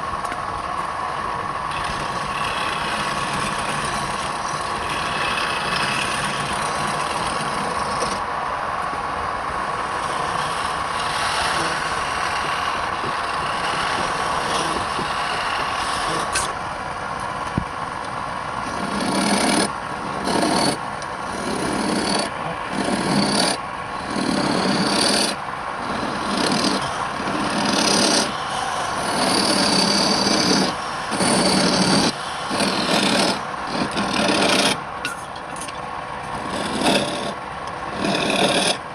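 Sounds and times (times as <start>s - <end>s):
wood lathe running: 1.1s - 35.6s, 36.2s - 38.9s
tool scraping spinning wood: 1.4s - 8.3s, 8.9s - 17.8s, 18.4s - 38.9s.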